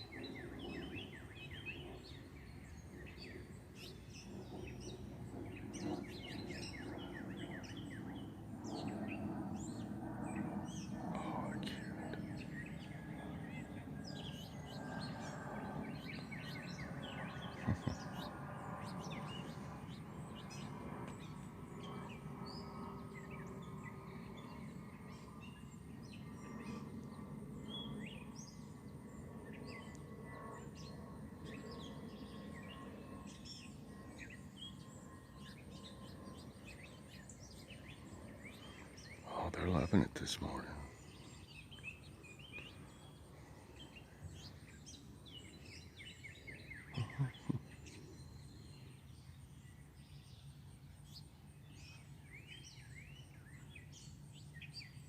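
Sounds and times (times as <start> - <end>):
low background hum: 0.0 - 55.0
songbirds chirping and twittering: 0.0 - 55.0.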